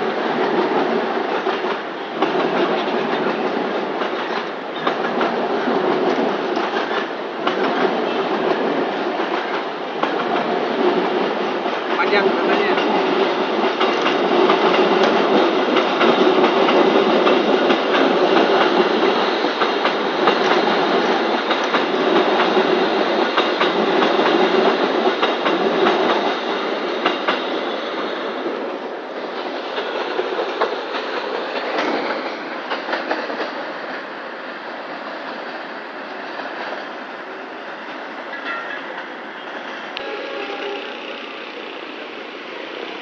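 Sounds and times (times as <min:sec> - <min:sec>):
train rolling past: 0:00.0 - 0:43.0.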